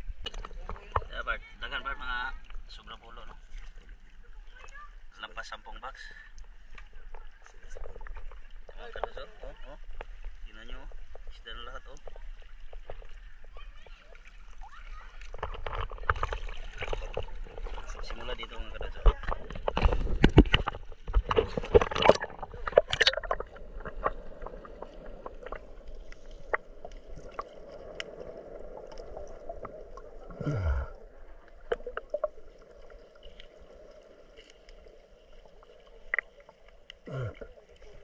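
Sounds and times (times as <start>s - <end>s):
dull underwater hum: 0.0s - 38.0s
water splashing: 0.0s - 38.0s.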